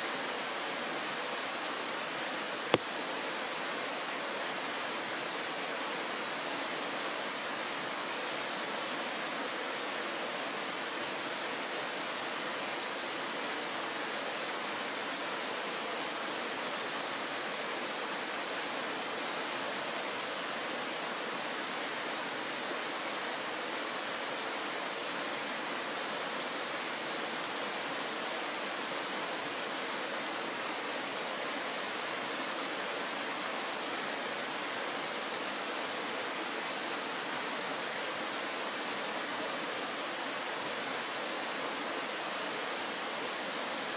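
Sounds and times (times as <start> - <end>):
stream rushing over stones: 0.0 - 43.9.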